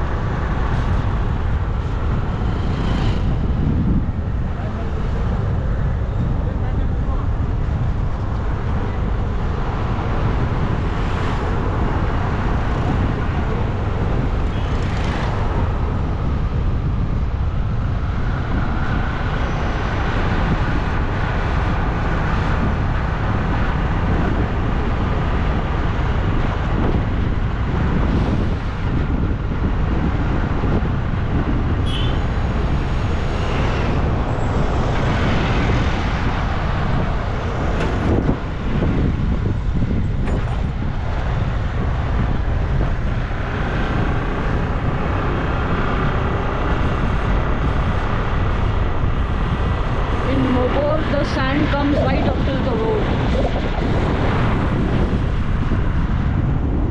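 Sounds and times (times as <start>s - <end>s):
bike road noise: 0.0s - 56.9s
wind on microphone: 0.0s - 56.9s.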